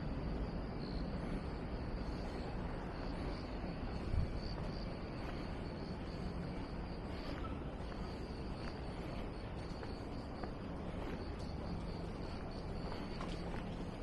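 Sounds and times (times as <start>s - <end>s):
distant traffic hum: 0.0s - 14.0s
footsteps on paved path: 0.0s - 14.0s.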